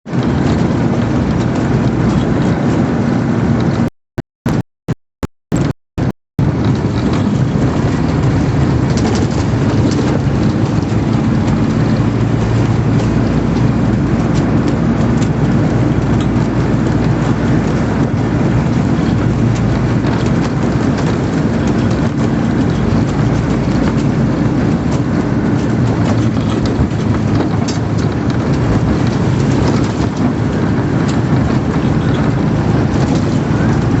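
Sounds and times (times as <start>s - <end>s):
tyres rushing on road: 0.0s - 3.9s, 5.6s - 34.0s
vehicle engine hum: 0.0s - 3.9s, 5.5s - 34.0s
wind rushing: 6.4s - 34.0s.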